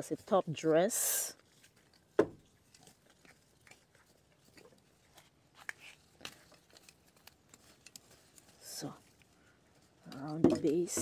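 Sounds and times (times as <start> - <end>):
metal tines scratching soil: 0.0 - 9.2.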